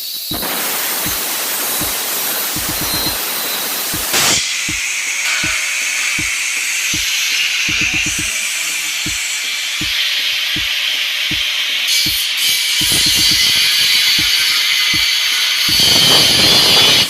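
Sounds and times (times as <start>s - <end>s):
burst of noise: 0.0s - 17.0s
background music with steady beat: 0.3s - 17.0s.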